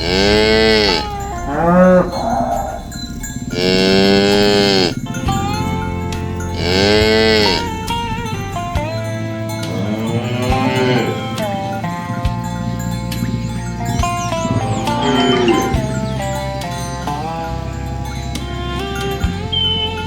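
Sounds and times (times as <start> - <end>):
cows mooing: 0.0 - 20.0.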